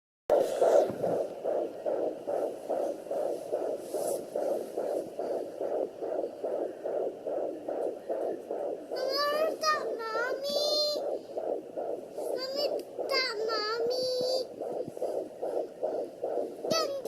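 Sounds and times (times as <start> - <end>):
fetal heartbeat whooshing pulses: 0.3 - 17.0.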